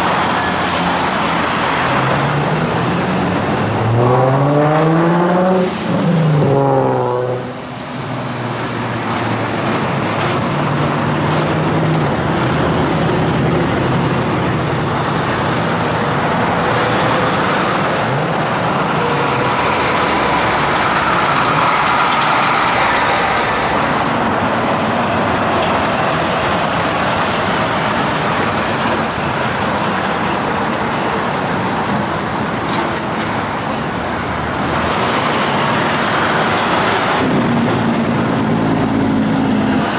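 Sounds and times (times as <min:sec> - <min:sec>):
highway traffic passing: 0:00.0 - 0:39.9
truck engine accelerating: 0:00.0 - 0:39.9.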